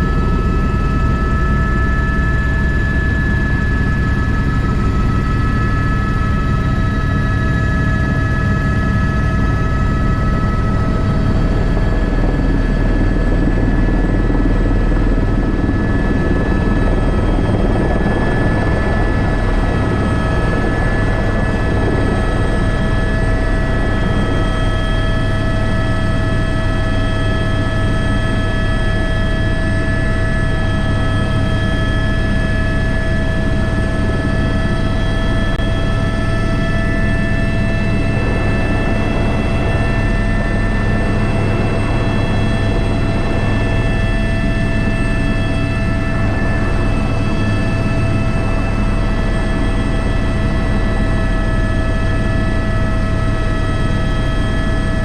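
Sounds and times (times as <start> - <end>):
helicopter rotor rumble: 0.0 - 55.0
helicopter turbine whine: 0.0 - 55.0.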